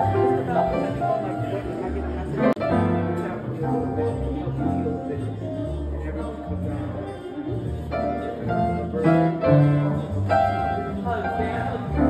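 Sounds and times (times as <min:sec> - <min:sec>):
grand piano chords: 0:00.0 - 0:12.0.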